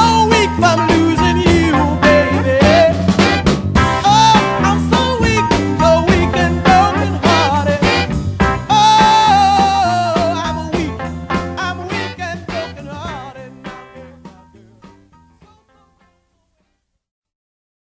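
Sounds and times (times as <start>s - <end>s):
soul band instrumental: 0.0s - 16.6s.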